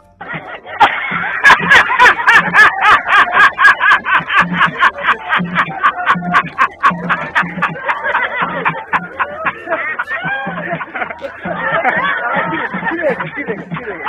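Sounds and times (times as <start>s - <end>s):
man laughing loudly: 0.2s - 14.0s.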